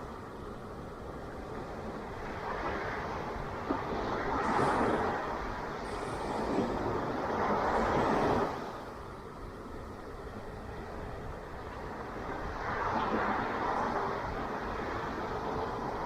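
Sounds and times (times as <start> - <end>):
steady roar of the sea: 0.0 - 16.0
wave breaking and washing in: 0.0 - 16.0.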